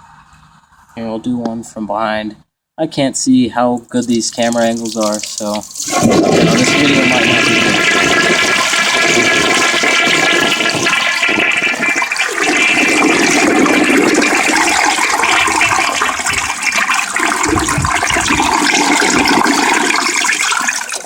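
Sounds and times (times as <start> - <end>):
toilet flushing: 4.0 - 21.0.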